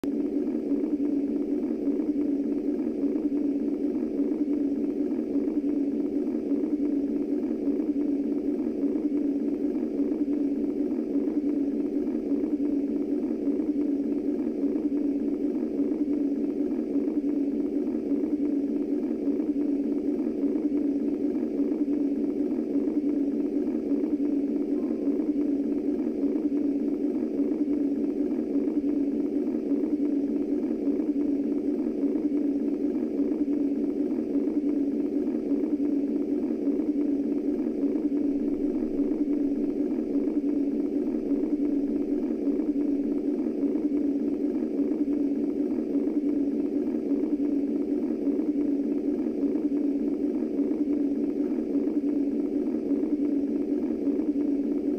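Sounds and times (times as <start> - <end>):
muffled low white noise: 0.0 - 54.9.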